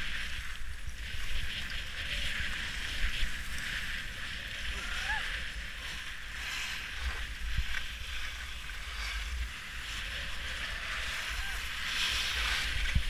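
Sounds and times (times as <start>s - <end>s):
skis scraping over snow: 0.0s - 13.0s
wind rumble on microphone: 0.0s - 13.0s.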